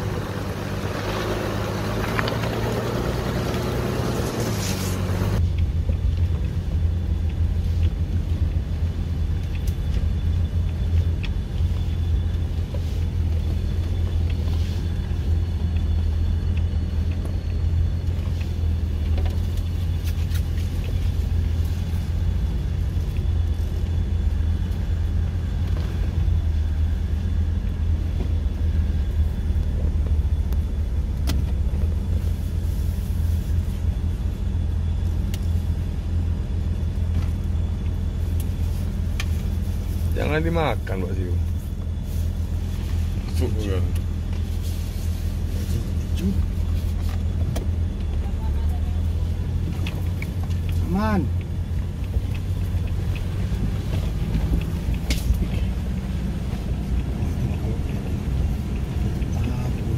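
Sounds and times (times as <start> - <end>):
off-road vehicle engine rumble: 0.0 - 59.9.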